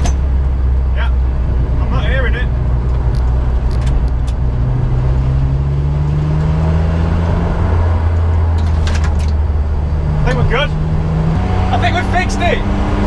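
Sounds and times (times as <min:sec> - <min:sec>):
car engine running: 0:00.0 - 0:13.0
road noise: 0:00.0 - 0:13.0.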